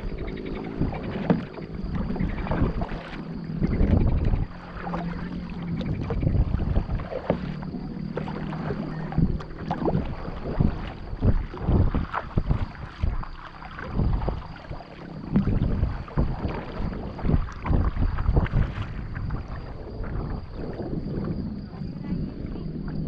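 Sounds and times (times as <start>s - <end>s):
moving water wash: 0.0s - 23.0s
paddle splashing in water: 0.0s - 23.0s.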